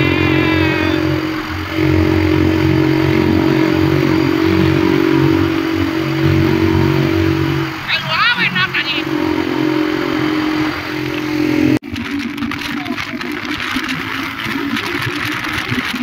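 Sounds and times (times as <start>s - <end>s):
motorcycle engine running: 0.0s - 7.9s, 9.0s - 16.0s.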